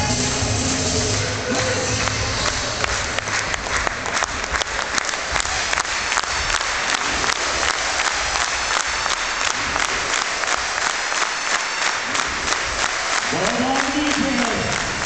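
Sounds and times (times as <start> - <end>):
large crowd applauding: 0.0 - 15.0.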